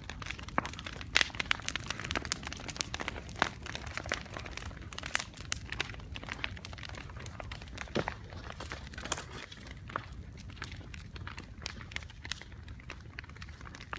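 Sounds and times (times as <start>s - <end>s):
bonfire crackling: 0.0s - 13.9s.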